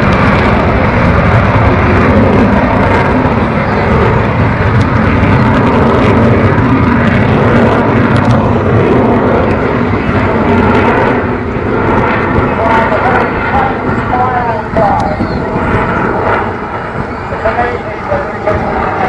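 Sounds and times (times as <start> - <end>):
loud jet engine noise: 0.0 - 19.0.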